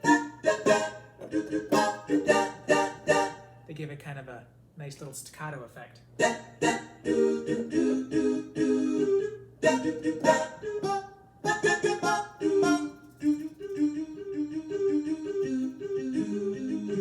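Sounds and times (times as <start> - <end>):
digital piano playing: 0.0 - 3.6, 6.2 - 17.0.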